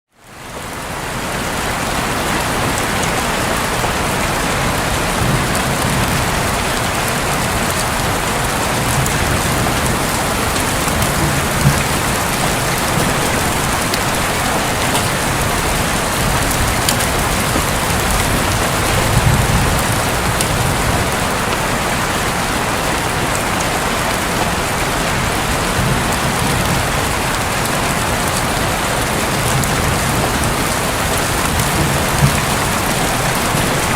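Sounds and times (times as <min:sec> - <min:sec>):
heavy rain on a roof: 0:00.1 - 0:33.9
thunder rumbling: 0:02.0 - 0:33.9.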